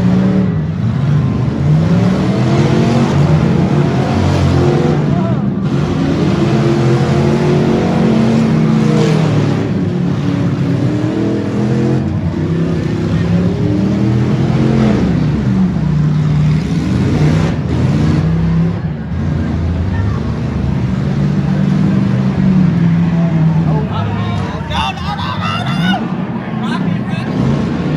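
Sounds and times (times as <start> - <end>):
car engines revving together: 0.0 - 27.9.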